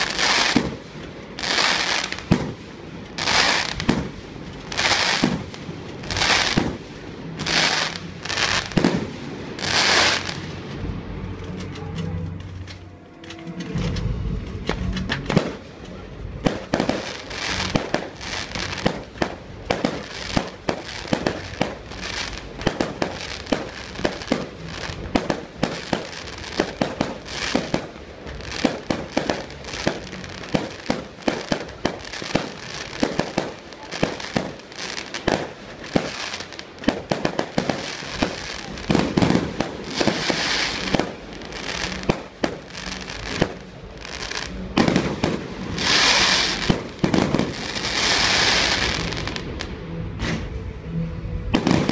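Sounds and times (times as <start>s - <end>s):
fireworks crackling hiss: 0.0s - 11.7s, 12.3s - 50.6s
fireworks bangs: 0.0s - 50.7s, 51.4s - 51.9s.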